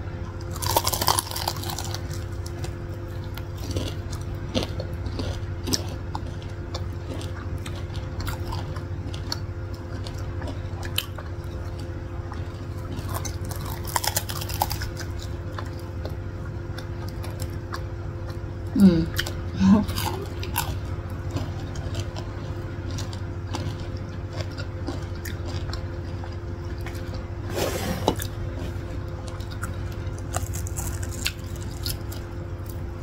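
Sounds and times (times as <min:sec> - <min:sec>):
steady low hum: 0:00.0 - 0:33.0
crunchy food being chewed: 0:00.3 - 0:33.0.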